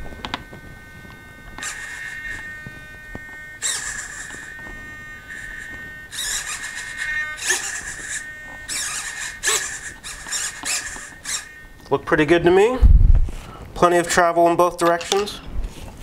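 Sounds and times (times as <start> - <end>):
servo whining: 0.0 - 16.0.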